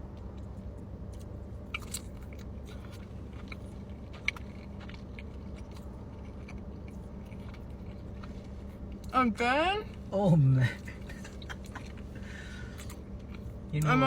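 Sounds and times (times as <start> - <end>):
person chewing food: 0.0 - 9.1, 10.9 - 13.9
steady low hum: 0.0 - 14.0.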